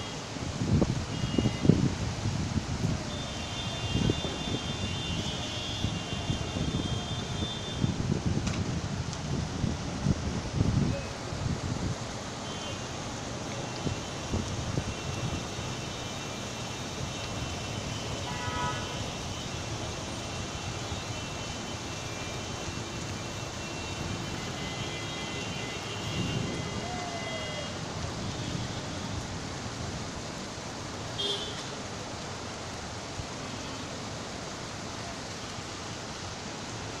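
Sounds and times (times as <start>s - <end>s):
rain hissing on street: 0.0s - 37.0s
traffic noise: 0.0s - 37.0s.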